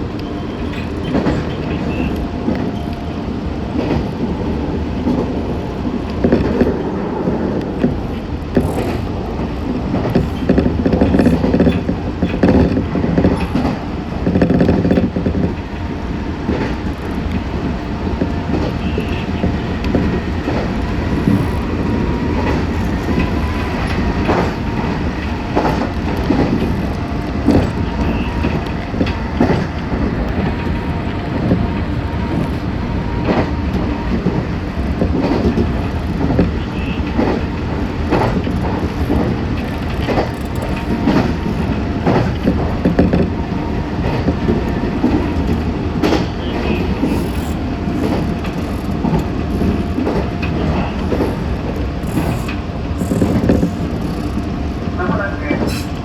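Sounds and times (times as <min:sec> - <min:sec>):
train running rumble: 0:00.0 - 0:56.0
wheels clicking over rail joints: 0:00.0 - 0:56.0.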